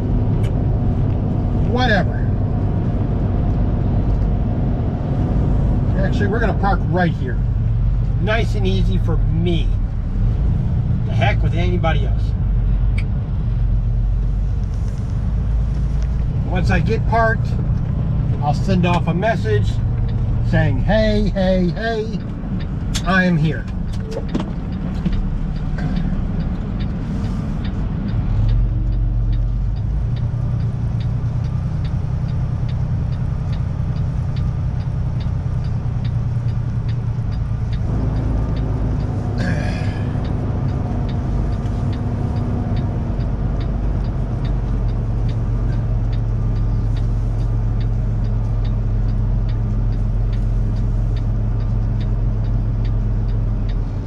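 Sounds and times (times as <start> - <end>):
diesel truck engine running: 0.0 - 54.0
faint regular ticking: 6.1 - 54.0.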